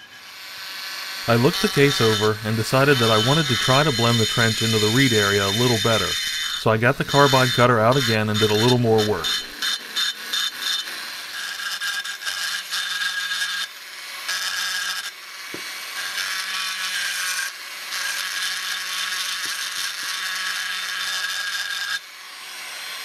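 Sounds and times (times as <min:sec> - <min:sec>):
rotary tool grinding metal: 0:00.0 - 0:23.0.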